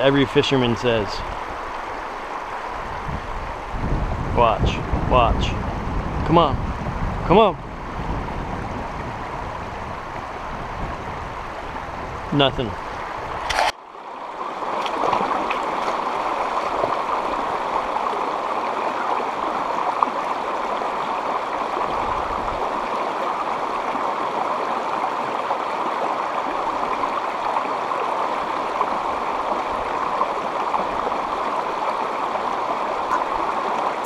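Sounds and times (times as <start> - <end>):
water rushing over boulders: 0.0 - 34.0.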